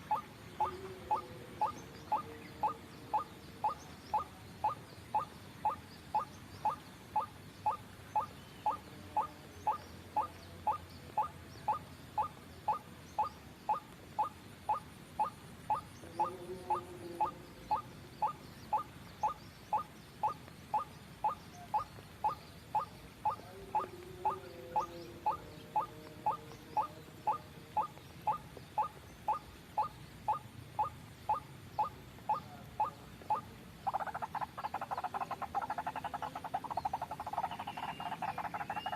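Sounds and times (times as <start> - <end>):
waterhen call: 0.0 - 38.9.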